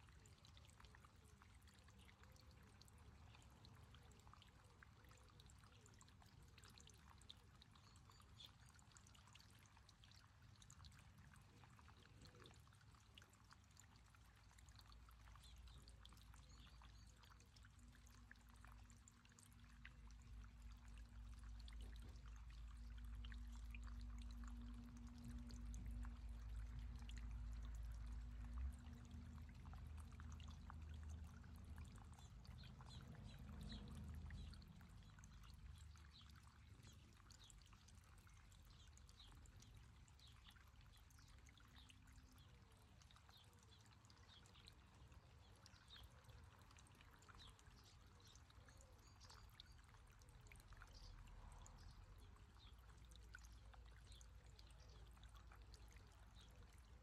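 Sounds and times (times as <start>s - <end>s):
fountain water trickling: 0.0s - 57.0s.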